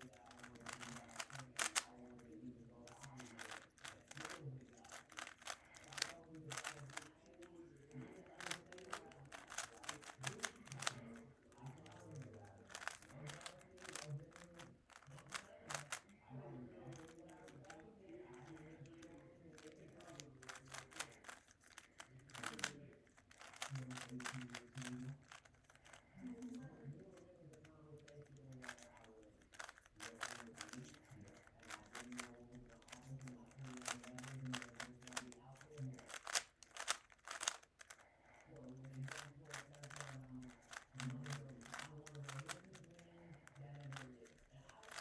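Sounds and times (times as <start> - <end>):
speed cube clicking: 0.0 - 45.0.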